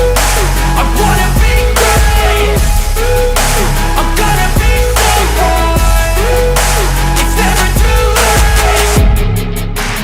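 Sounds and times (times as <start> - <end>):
electronic hip-hop instrumental: 0.0 - 10.0.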